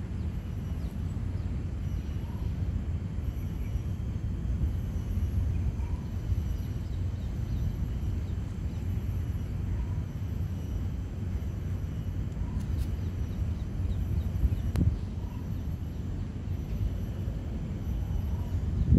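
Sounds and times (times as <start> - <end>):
low outdoor rumble: 0.0 - 18.9.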